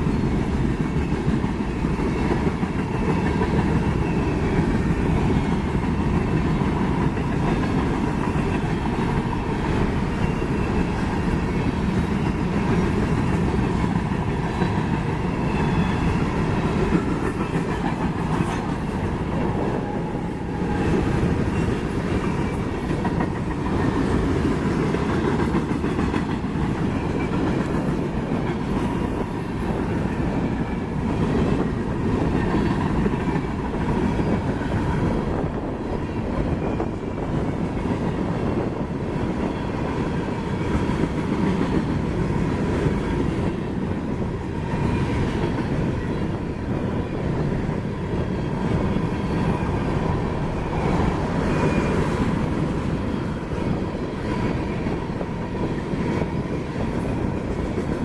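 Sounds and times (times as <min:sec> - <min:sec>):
clickety-clack over rail joints: 0:00.0 - 0:58.0
train wheels rumbling on rail: 0:00.0 - 0:58.0.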